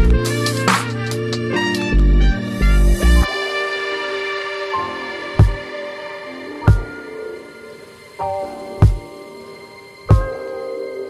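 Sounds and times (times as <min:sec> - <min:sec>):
electronic background music: 0:00.0 - 0:11.0.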